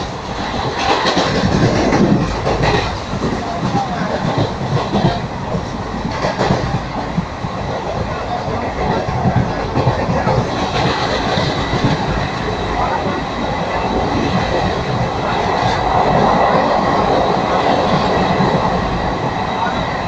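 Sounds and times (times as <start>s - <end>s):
train running on track: 0.0s - 20.0s.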